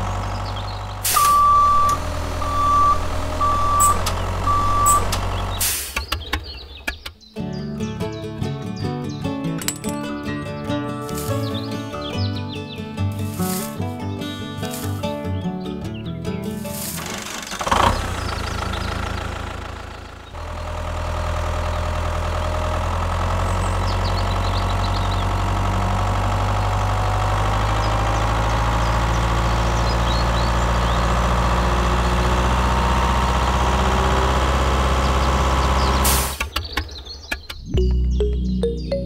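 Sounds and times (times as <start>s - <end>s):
tractor engine droning: 0.0s - 7.2s, 10.8s - 39.0s.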